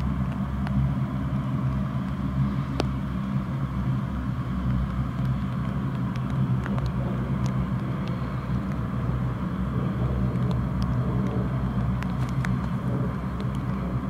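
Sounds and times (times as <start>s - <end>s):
turboprop engines humming: 0.0s - 14.0s.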